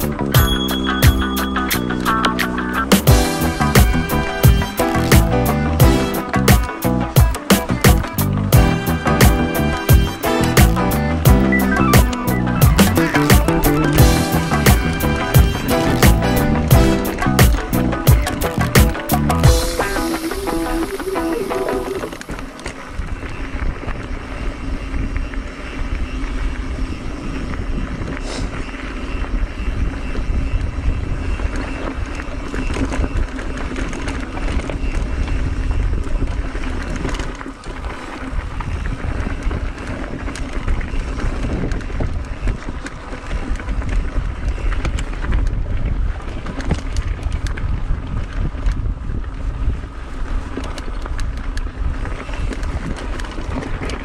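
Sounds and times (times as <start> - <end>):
bike tyres and frame rattling: 0.0 - 54.0
wind rushing over microphone: 2.9 - 54.0.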